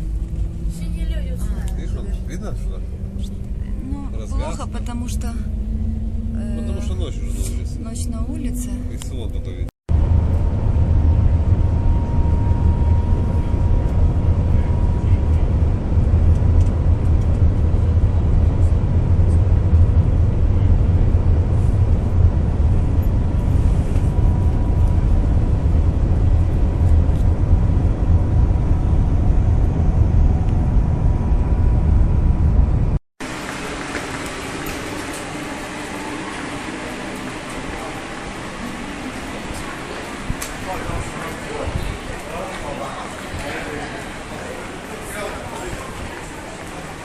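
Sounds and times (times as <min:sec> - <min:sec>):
train low rumble and air rush: 0:00.0 - 0:47.0.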